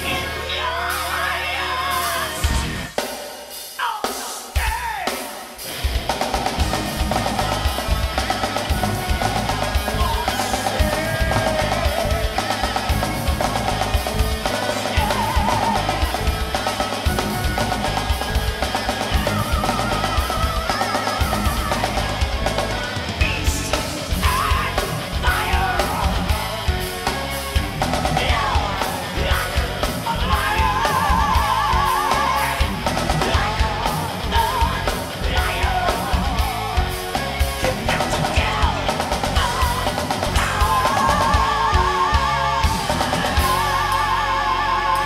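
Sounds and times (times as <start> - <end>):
distorted guitars: 0.0 - 45.0.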